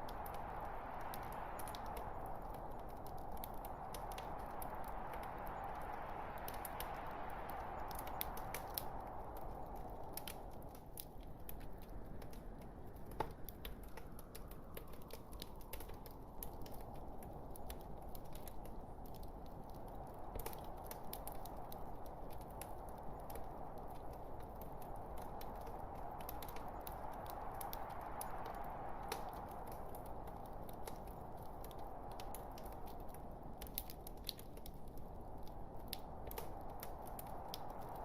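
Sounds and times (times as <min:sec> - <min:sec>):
log fire crackling: 0:00.0 - 0:38.0.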